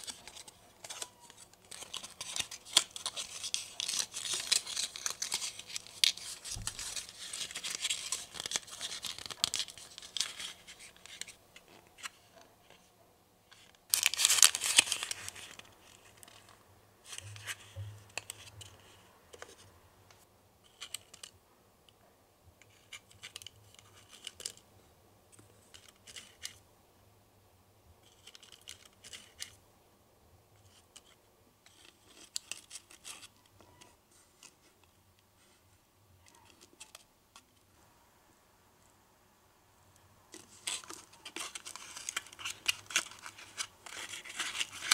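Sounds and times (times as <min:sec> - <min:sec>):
card rustling and creasing: 0:00.0 - 0:12.9, 0:13.5 - 0:19.7, 0:20.6 - 0:21.4, 0:22.6 - 0:24.6, 0:25.3 - 0:26.6, 0:28.0 - 0:29.6, 0:30.6 - 0:37.6, 0:40.3 - 0:44.9.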